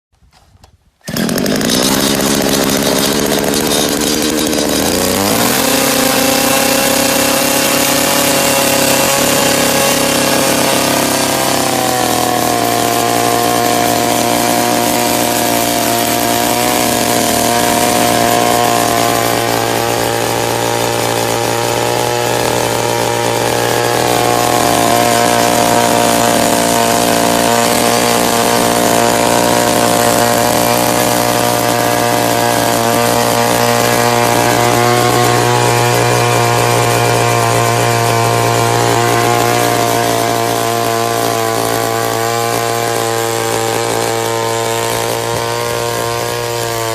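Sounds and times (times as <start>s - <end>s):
small petrol engine running: 1.0s - 46.9s.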